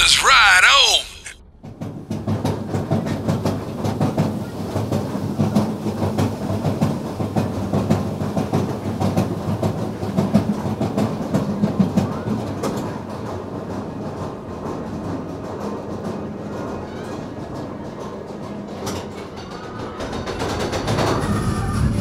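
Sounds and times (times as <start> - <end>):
roller coaster rumbling on track: 0.0 - 22.0.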